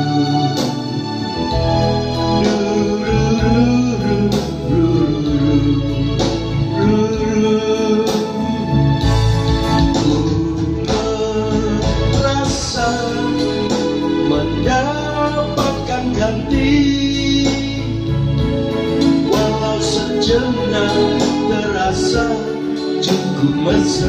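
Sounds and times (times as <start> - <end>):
electronic keyboard pop ballad: 0.0 - 24.0.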